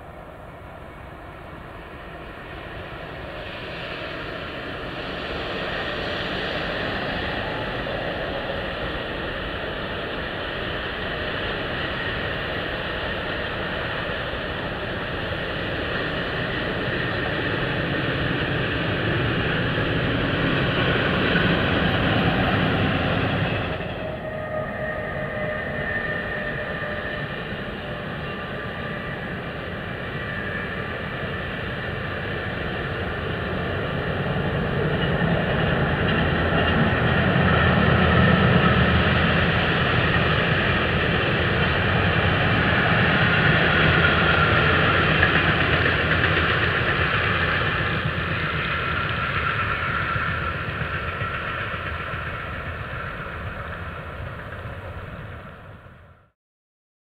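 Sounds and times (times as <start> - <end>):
train wheels rumbling on rail: 0.0 - 56.3.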